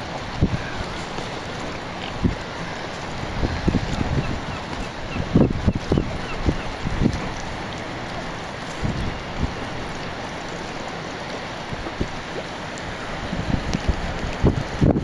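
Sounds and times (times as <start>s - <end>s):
rush of wind and water: 0.0s - 15.0s
wind buffeting microphone: 0.0s - 15.0s.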